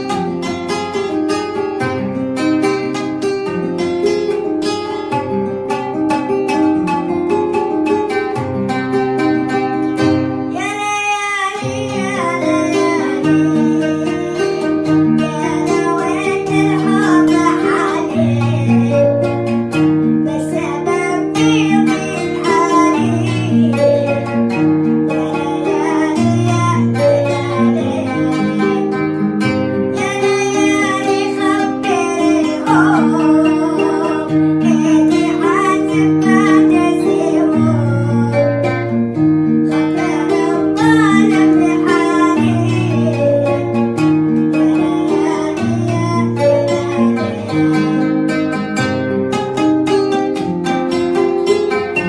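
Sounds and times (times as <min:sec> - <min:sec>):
person singing: 0:00.0 - 0:48.8
plucked string accompaniment: 0:00.0 - 0:52.0.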